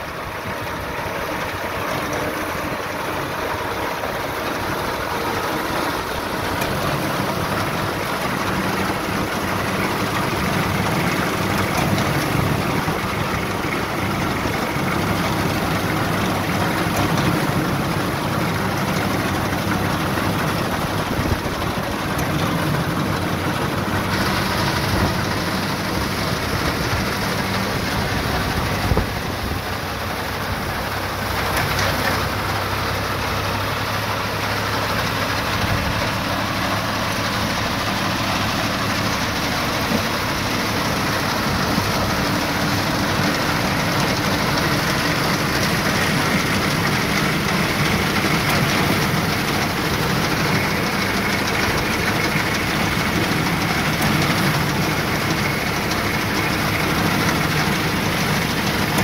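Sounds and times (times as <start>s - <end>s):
tractor engine: 0.0s - 59.0s.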